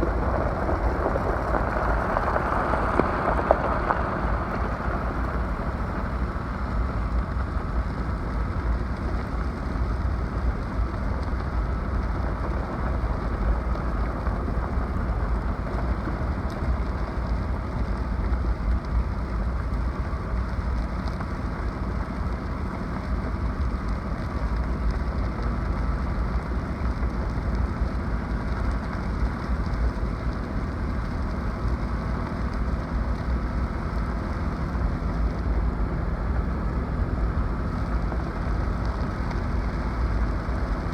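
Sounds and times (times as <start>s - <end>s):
low rumble: 0.0s - 40.9s.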